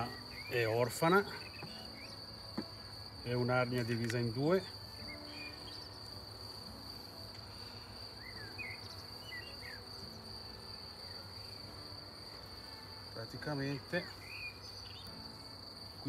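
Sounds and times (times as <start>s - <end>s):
high-pitched insect trill: 0.0s - 16.0s
honeybees buzzing: 0.0s - 16.0s.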